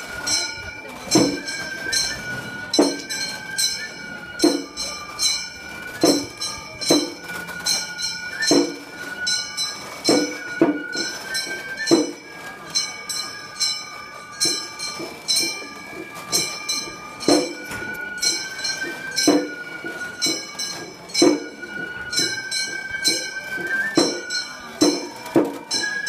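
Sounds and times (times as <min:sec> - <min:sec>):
high flute: 0:00.0 - 0:26.0
ringing metal strikes: 0:00.2 - 0:26.0.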